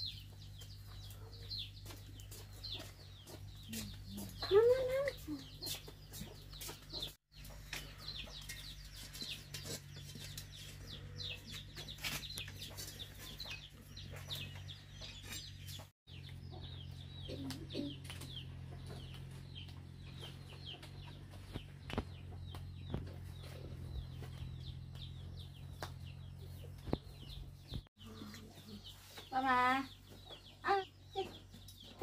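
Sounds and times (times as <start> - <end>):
chickens clucking: 0.2 - 29.3.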